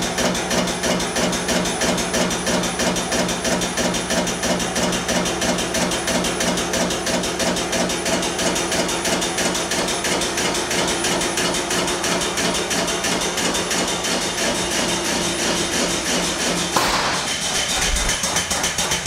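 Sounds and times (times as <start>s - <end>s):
air-driven pump knocking: 0.0s - 19.0s.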